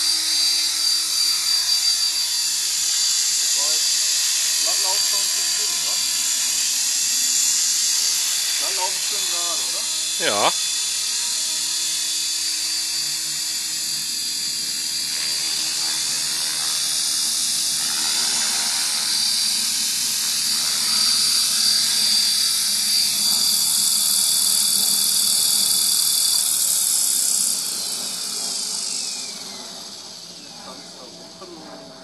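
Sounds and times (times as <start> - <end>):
model helicopter rotor whining: 0.0 - 32.0.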